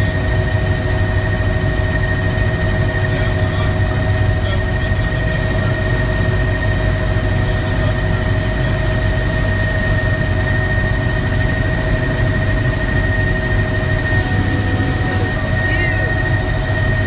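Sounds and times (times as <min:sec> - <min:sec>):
helicopter engine rumble: 0:00.0 - 0:17.0
helicopter rotor high whine: 0:00.0 - 0:17.0.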